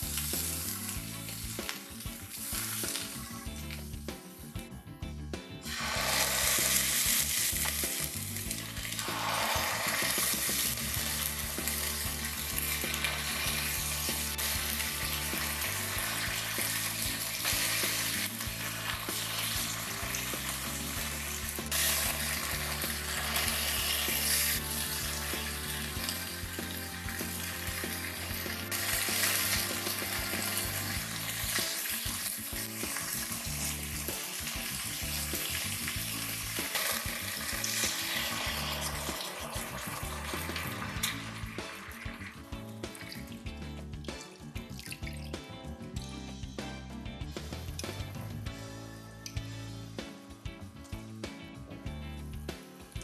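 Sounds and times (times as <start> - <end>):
chicken sizzling in hot oil: 0.0 - 4.9, 5.5 - 45.5, 52.2 - 53.0.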